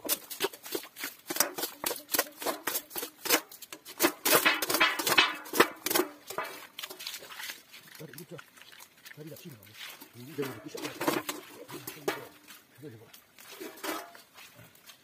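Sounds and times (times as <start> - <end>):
metal pan scraping on gravel: 0.0 - 15.0
muddy water splashing: 0.0 - 15.0.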